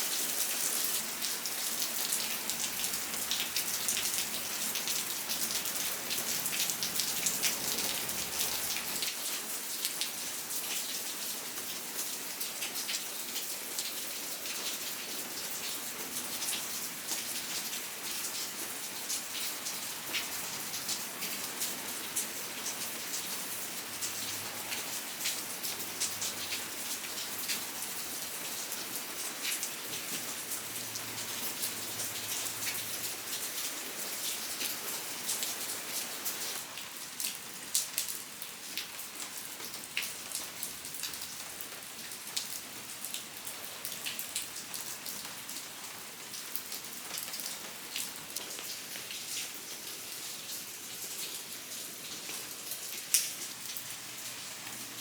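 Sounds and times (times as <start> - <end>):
rain drops ticking on a surface: 0.0 - 55.0.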